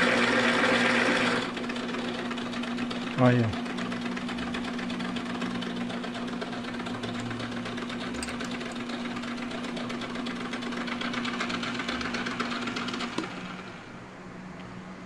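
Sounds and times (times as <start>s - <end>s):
lathe motor humming and rattling: 0.0s - 14.1s.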